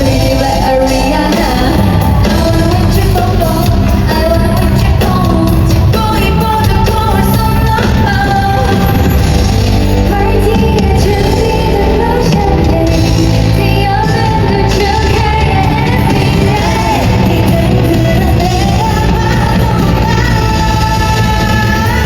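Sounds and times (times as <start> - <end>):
pop song over sound system: 0.0 - 22.0
women singing: 0.0 - 22.0.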